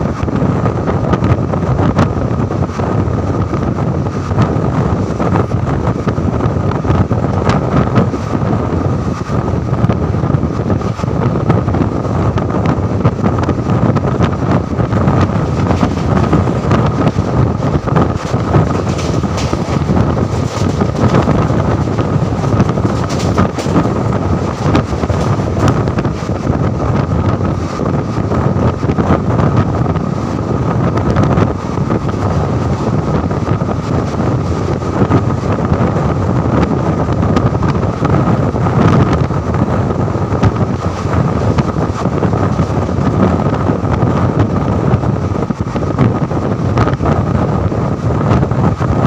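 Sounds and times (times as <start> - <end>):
train wheels rumbling on rails: 0.0 - 49.0
wind buffeting microphone: 0.0 - 49.0.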